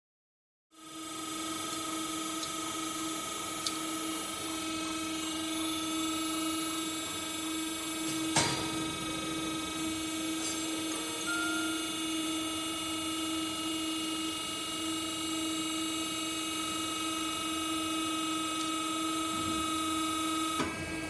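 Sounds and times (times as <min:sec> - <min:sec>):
machine motor hum with whine: 0:00.8 - 0:21.0.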